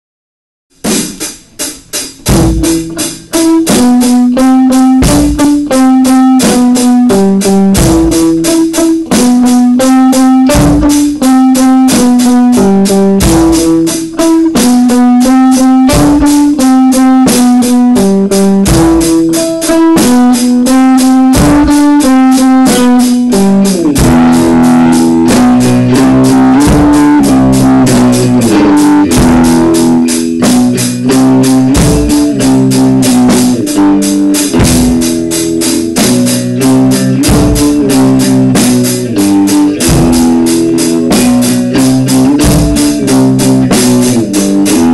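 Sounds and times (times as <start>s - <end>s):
drum beat: 0.7s - 44.9s
electric guitar riff: 0.8s - 44.9s.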